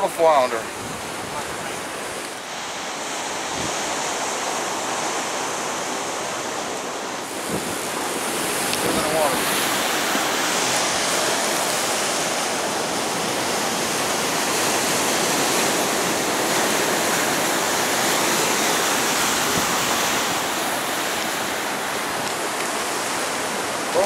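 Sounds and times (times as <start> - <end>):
ocean surf hissing: 0.0 - 24.0.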